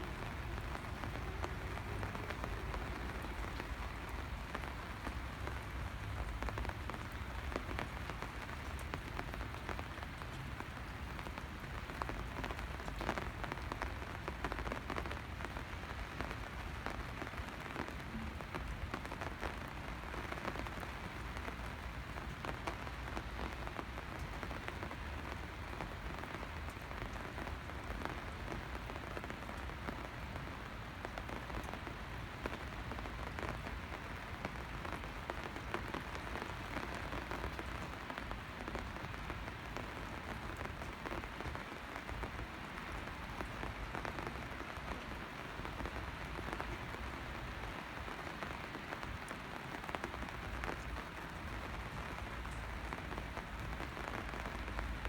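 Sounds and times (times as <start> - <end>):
rain falling: 0.0 - 55.0
raindrops ticking: 0.0 - 55.0.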